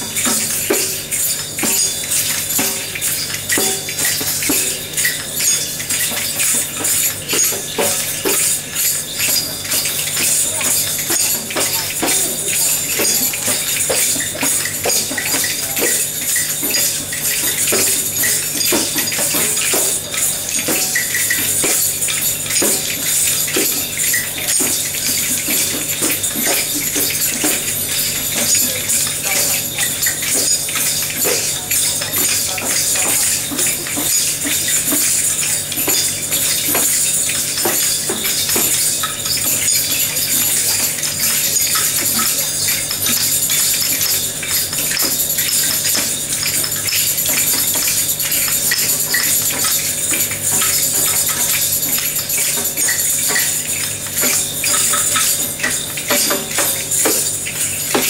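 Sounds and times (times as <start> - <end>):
hand percussion jingling and clicking: 0.0 - 58.0.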